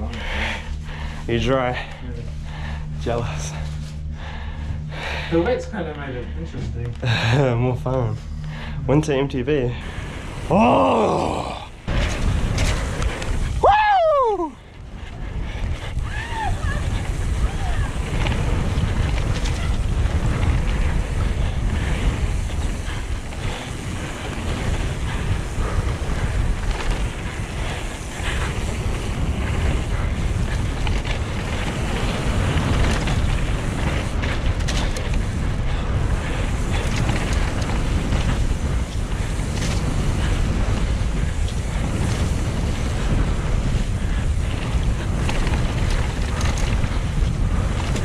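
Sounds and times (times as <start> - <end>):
bike rattles and clicks: 0.0 - 48.0
wind buffeting microphone: 0.0 - 48.0.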